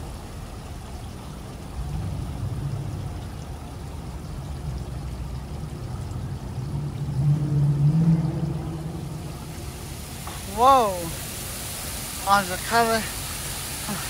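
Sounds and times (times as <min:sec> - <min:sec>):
fountain water rushing down stone: 0:00.0 - 0:14.0
low mechanical hum: 0:00.0 - 0:14.0.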